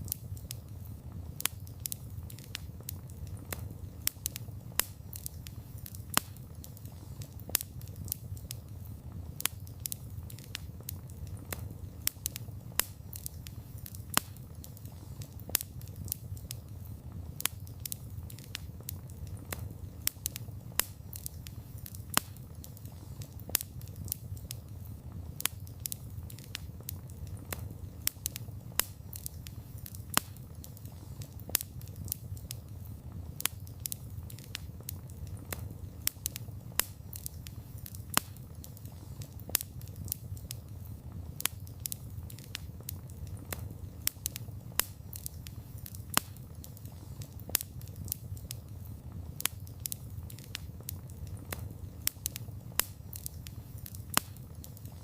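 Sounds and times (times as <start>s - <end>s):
fire crackles and pops: 0.0s - 55.0s
wood fire rumbling: 0.0s - 55.0s.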